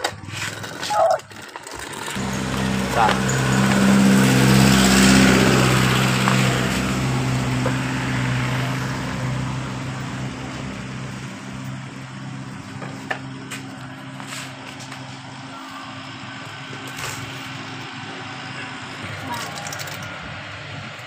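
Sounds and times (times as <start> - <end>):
low engine-like drone: 2.1 - 21.0.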